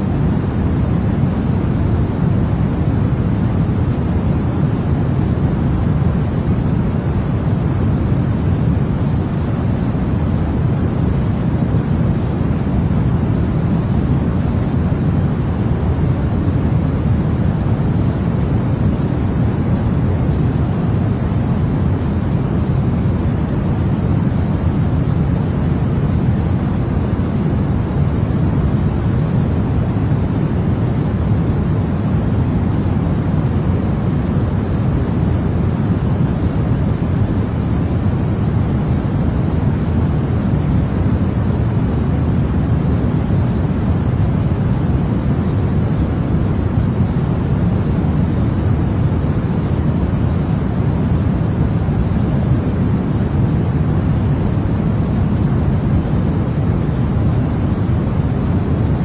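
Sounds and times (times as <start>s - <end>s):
deep white noise: 0.0s - 59.0s.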